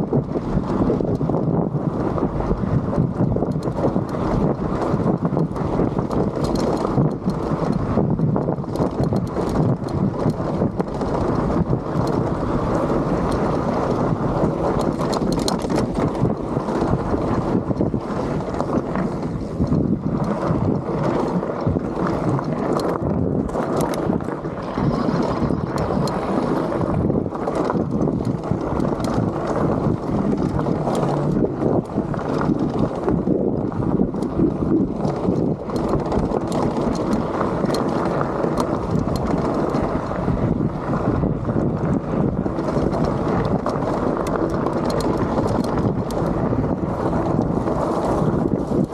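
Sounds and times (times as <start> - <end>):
wind rushing over microphone: 0.0 - 48.9
bike clattering over rocks: 3.2 - 24.9, 25.7 - 48.9.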